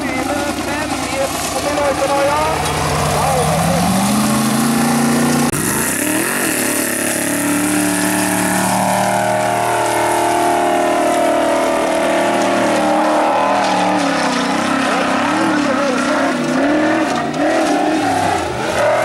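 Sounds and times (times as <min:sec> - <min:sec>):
racing car engine at high revs: 0:00.0 - 0:19.0.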